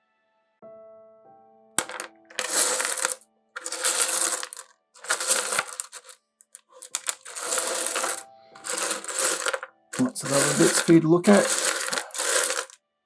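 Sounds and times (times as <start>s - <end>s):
stones clinking in a tray: 1.8s - 12.8s.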